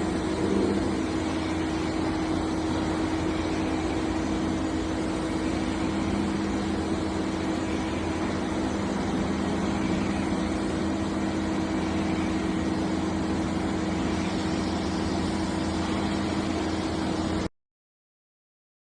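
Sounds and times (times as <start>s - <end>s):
boring mill machine hum: 0.0s - 17.5s.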